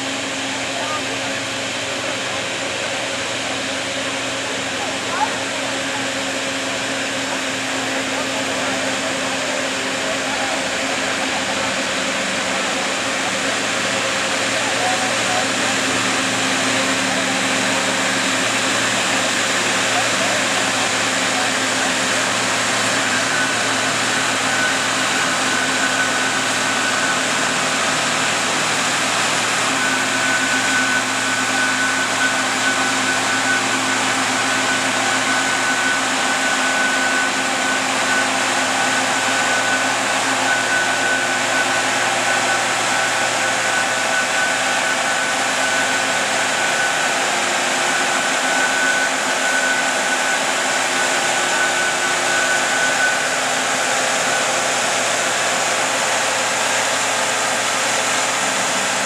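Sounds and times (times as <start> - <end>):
high whine: 0.0 - 59.0
tractor engine running: 0.0 - 59.0.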